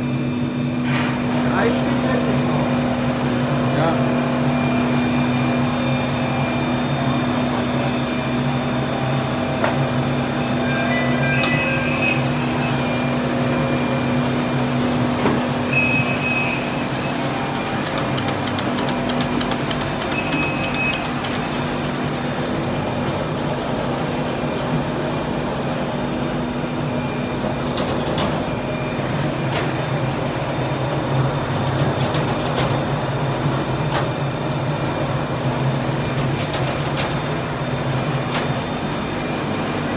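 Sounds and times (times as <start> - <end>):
binding machine humming: 0.0 - 39.9.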